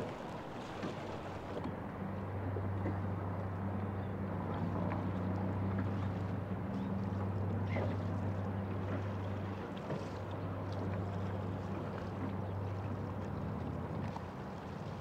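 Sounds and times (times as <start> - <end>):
low motor hum: 0.0 - 15.0
water noise: 0.0 - 15.0.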